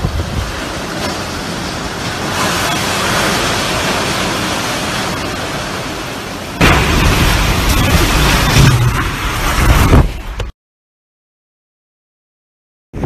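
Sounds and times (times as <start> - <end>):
strong wind roaring: 0.0 - 10.5
wind-driven rain: 0.0 - 10.5.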